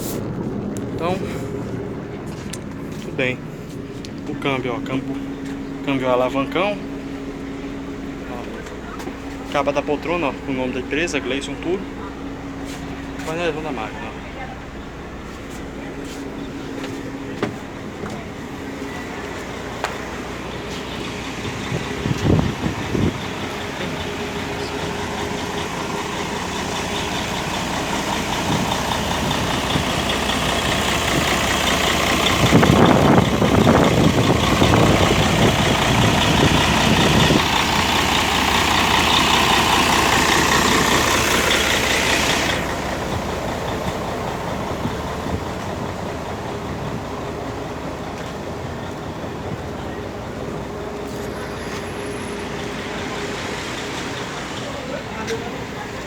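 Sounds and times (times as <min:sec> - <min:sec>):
diesel bus engine running: 0:00.0 - 0:56.0.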